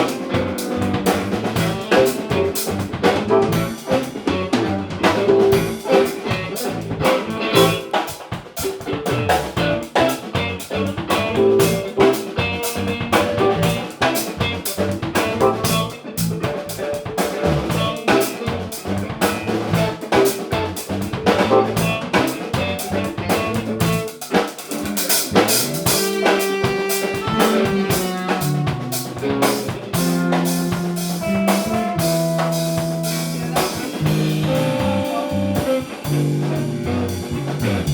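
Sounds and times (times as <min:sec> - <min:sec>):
drum kit beat with rim clicks: 0:00.0 - 0:37.9
pitched instruments playing: 0:00.0 - 0:37.9.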